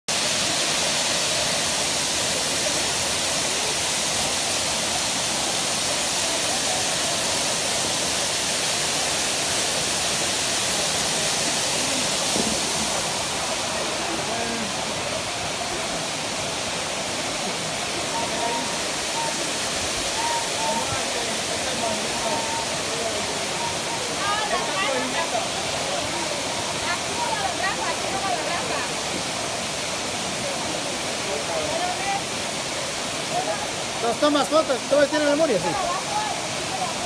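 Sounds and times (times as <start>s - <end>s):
waterfall rushing: 0.1s - 37.0s.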